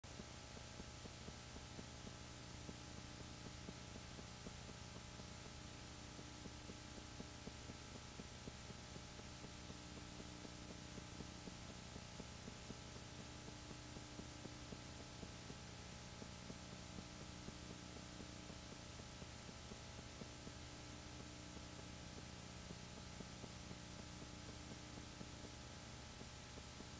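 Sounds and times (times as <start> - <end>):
film projector motor hum: 0.1 - 26.9
rapid light clicking: 0.2 - 26.9.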